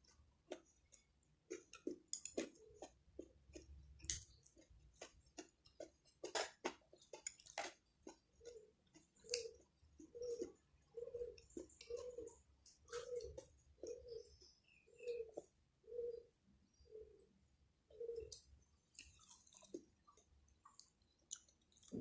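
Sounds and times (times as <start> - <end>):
person chewing food: 0.0 - 15.6, 18.2 - 22.0.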